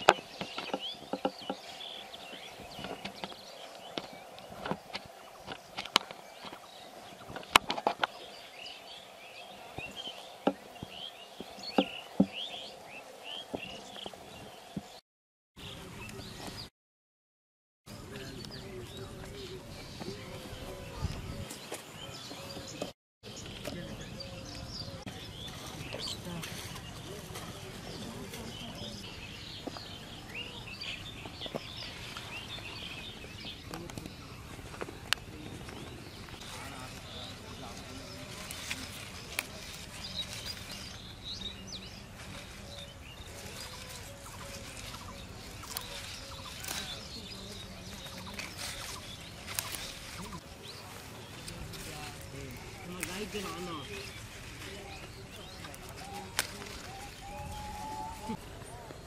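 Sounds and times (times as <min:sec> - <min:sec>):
small birds chirping: 0:00.0 - 0:15.0, 0:15.6 - 0:16.7, 0:17.9 - 0:59.0.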